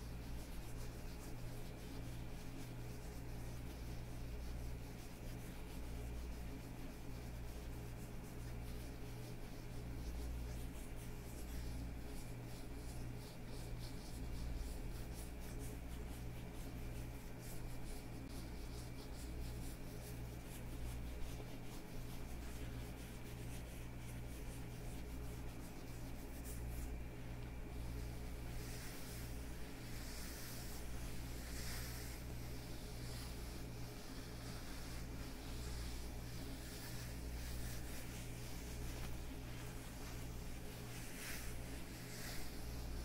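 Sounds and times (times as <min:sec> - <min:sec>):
leather gloves rubbing together: 0:00.0 - 0:43.0.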